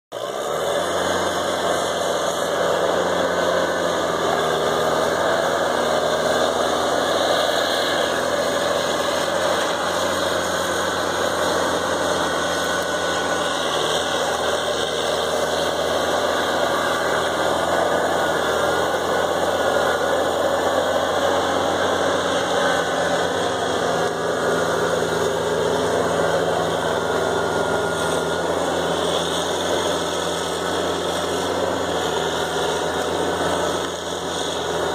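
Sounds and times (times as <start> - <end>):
diesel engines droning: 0.1 - 34.9.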